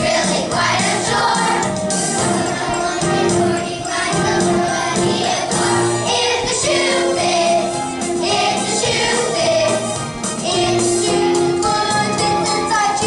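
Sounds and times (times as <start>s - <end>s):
children's choir singing: 0.0s - 13.0s
instrumental accompaniment with beat: 0.0s - 13.0s.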